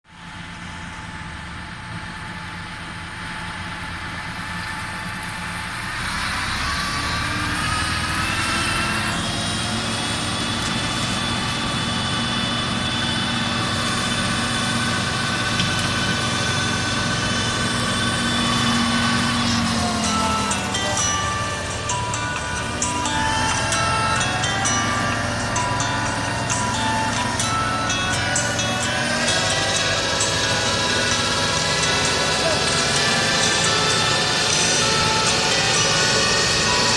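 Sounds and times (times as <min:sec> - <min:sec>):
flail mower whine: 0:00.1 - 0:36.9
tractor engine running: 0:00.1 - 0:36.9.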